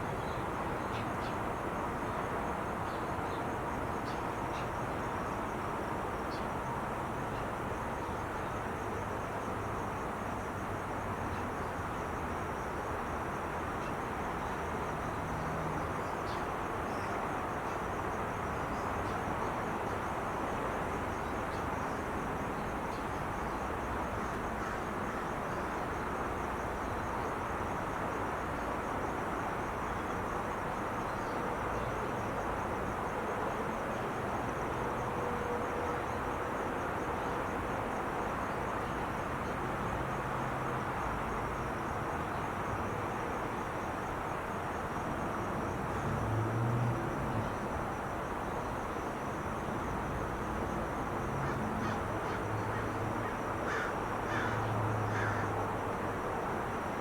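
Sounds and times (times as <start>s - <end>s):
freeway traffic roar: 0.0s - 57.0s.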